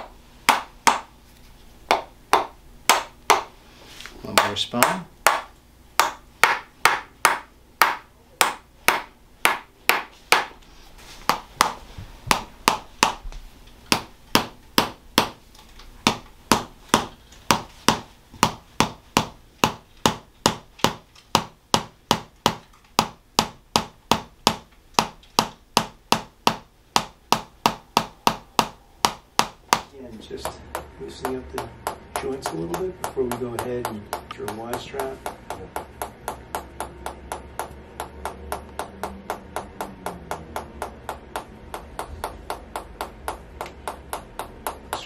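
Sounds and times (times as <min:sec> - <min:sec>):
mallet tapping on wooden wedge: 0:00.0 - 0:01.1, 0:01.9 - 0:03.5, 0:04.4 - 0:10.6, 0:11.3 - 0:13.2, 0:13.9 - 0:15.4, 0:16.0 - 0:45.0.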